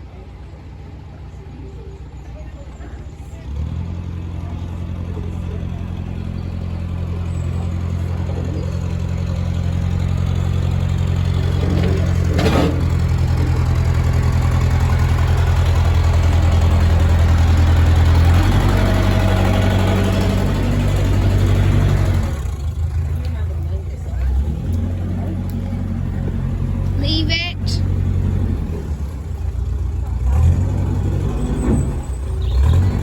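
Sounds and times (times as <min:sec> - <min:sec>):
boat engine running: 0:01.7 - 0:33.0.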